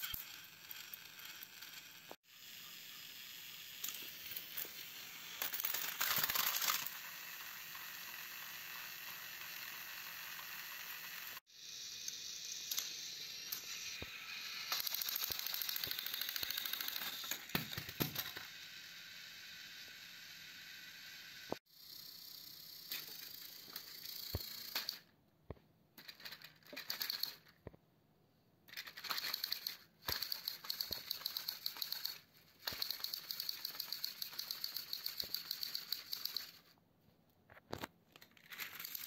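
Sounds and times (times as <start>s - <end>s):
toy train motor whirring: 0.0s - 25.1s, 26.0s - 27.6s, 28.7s - 36.8s, 38.1s - 39.0s.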